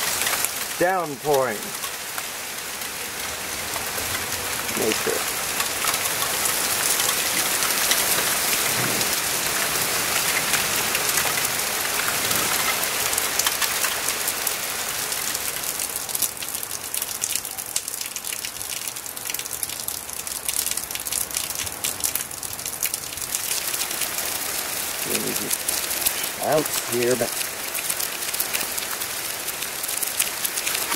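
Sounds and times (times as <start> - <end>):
heavy rain downpour: 0.0 - 30.9
sharp raindrop hits: 0.0 - 30.9.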